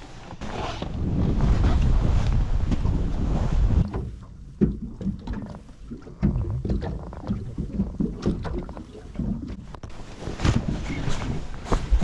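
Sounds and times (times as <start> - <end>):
waves lapping against boat hull: 0.3 - 12.0.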